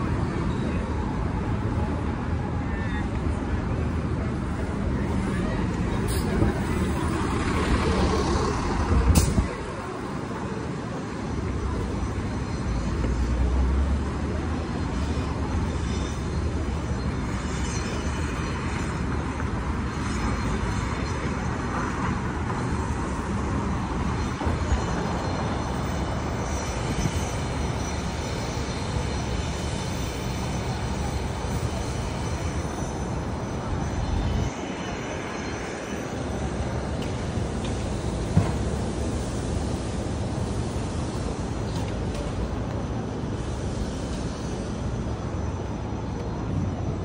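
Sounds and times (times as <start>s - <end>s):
low traffic rumble: 0.0s - 47.0s
passing cars: 0.0s - 47.0s.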